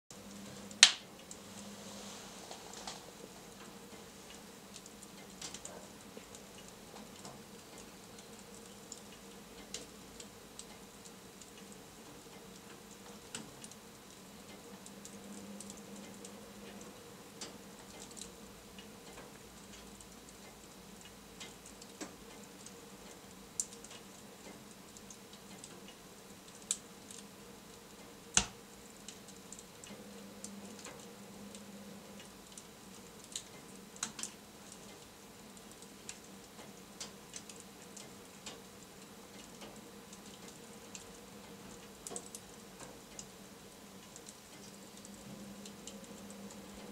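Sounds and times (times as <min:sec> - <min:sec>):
wood fire crackling: 0:00.1 - 0:46.9.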